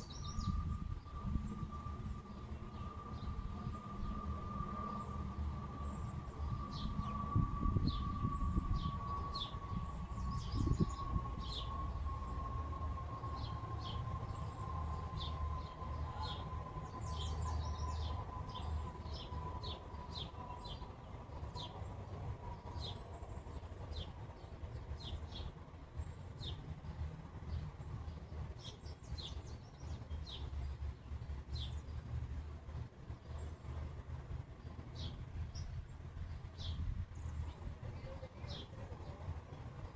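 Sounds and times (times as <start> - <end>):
low steady rumble: 0.0 - 39.9
small songbirds chirping: 0.0 - 39.9.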